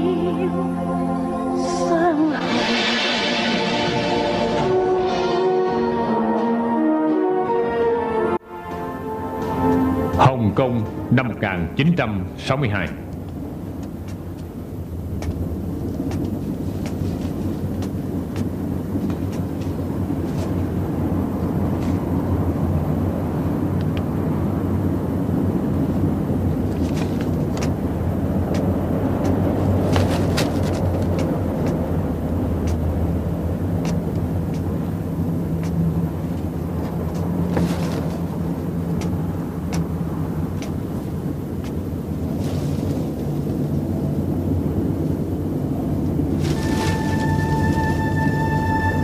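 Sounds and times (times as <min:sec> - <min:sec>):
street background rumble: 0:08.5 - 0:49.0.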